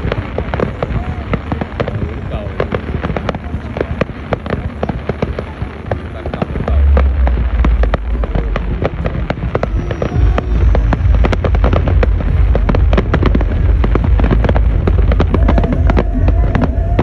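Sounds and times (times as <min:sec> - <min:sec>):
deep rumble: 0:00.0 - 0:17.0
fireworks cracks and bangs: 0:00.0 - 0:17.0.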